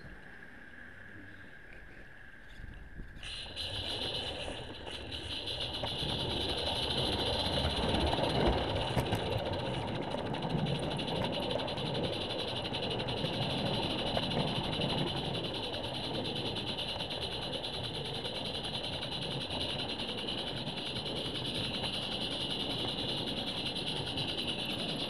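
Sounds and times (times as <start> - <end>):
low rumbling running noise: 0.0 - 25.0
steam hissing: 3.2 - 25.0.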